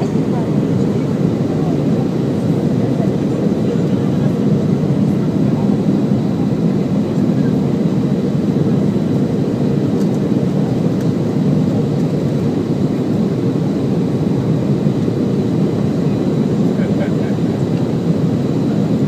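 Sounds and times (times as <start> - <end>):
airplane cabin engine rush: 0.0 - 19.0.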